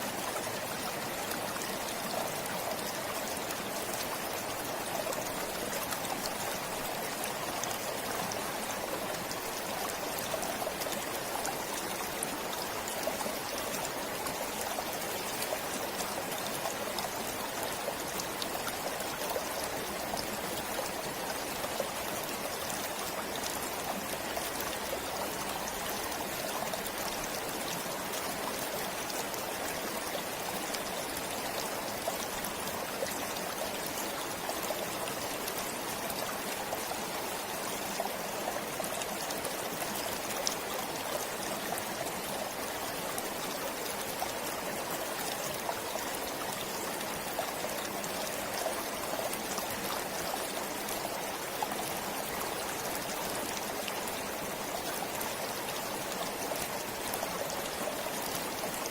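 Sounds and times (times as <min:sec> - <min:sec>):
stream flowing over rocks: 0:00.0 - 0:58.9.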